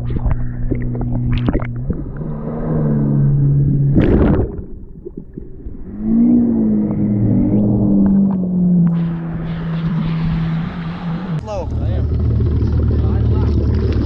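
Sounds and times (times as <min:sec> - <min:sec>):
engine changing speed: 0:00.0 - 0:14.0.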